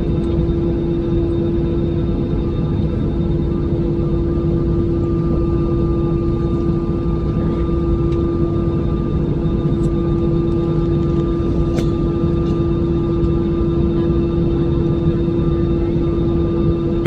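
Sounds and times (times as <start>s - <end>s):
airplane engine humming: 0.0s - 17.0s.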